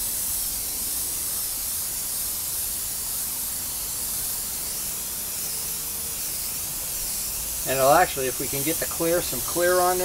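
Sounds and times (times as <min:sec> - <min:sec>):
airbrush spraying hiss: 0:00.0 - 0:10.0.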